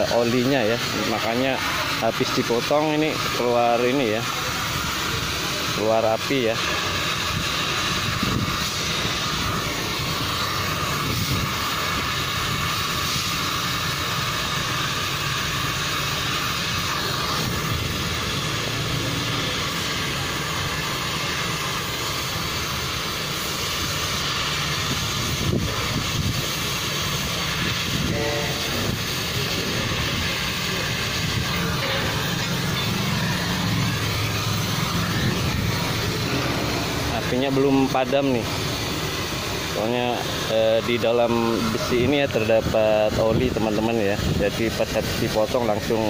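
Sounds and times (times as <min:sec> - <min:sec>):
cutting torch hissing: 0:00.0 - 0:46.0
oil burning: 0:00.0 - 0:46.0.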